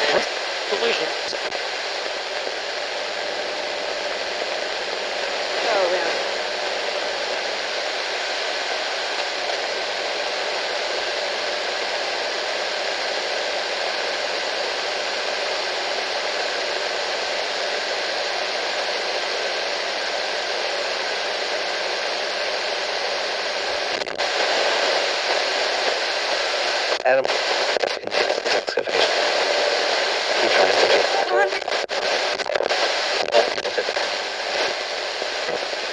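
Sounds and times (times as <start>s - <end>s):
radio static hiss: 0.0s - 35.9s.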